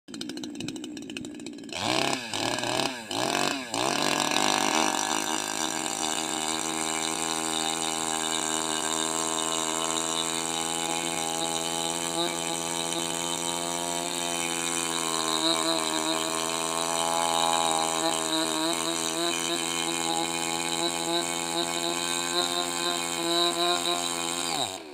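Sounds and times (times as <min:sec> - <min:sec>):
chainsaw revving: 0:00.1 - 0:24.9.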